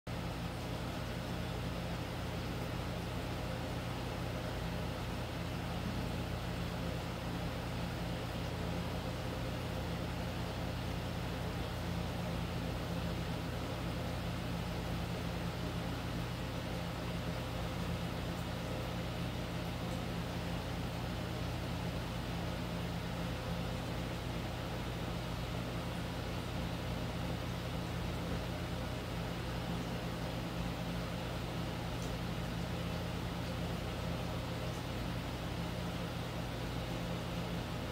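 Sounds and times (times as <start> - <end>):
low machine hum: 0.1 - 37.9.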